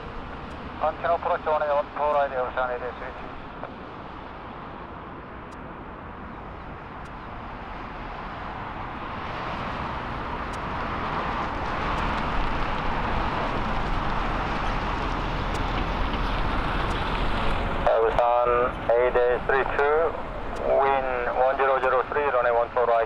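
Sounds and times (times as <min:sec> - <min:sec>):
jet airliner engine roar: 0:00.0 - 0:23.0.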